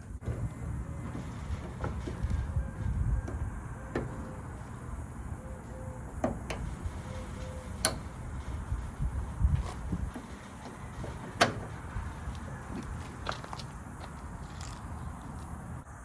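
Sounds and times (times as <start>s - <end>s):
door lock parts clicking: 0.0s - 15.4s.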